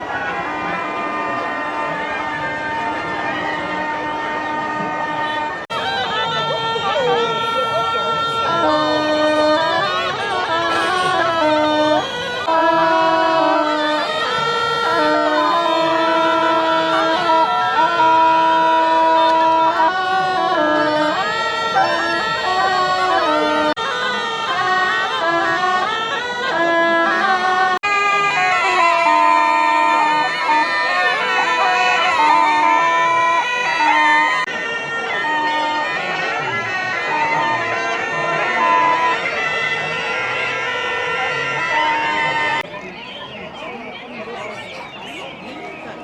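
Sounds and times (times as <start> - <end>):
reedy wind instrument melody: 0.0 - 46.0.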